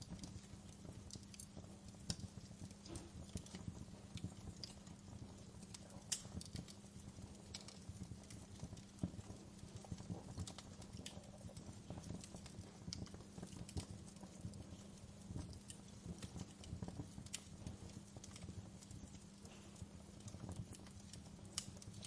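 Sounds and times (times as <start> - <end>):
low steady hum: 0.0 - 22.0
wood fire crackling: 0.0 - 22.0.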